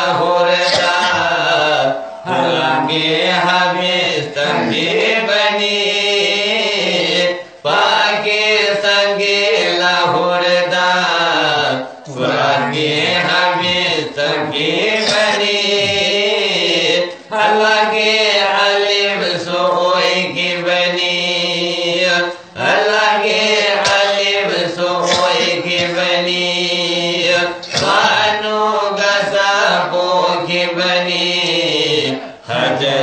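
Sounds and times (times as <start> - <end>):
men chanting devotional song: 0.0 - 33.0.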